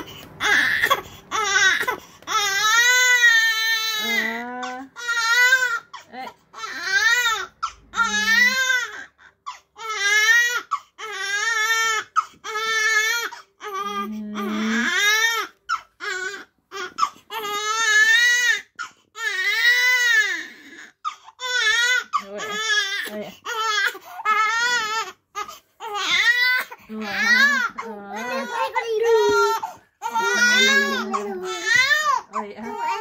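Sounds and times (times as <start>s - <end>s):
baby crying: 0.0s - 33.0s.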